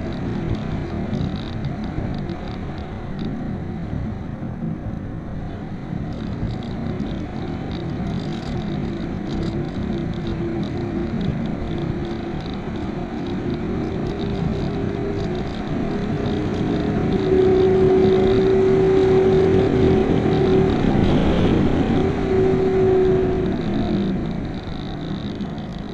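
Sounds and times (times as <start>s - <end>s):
steady droning tone: 0.0s - 25.9s
wind rushing over camera: 0.0s - 25.9s.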